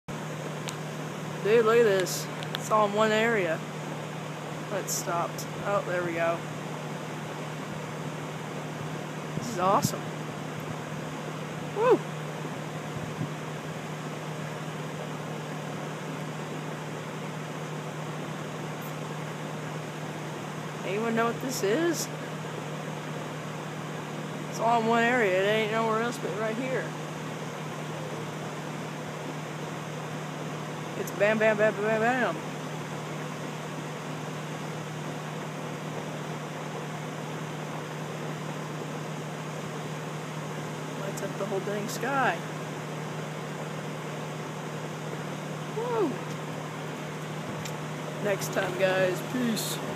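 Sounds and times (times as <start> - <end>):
constant low hum: 0.0 - 49.9.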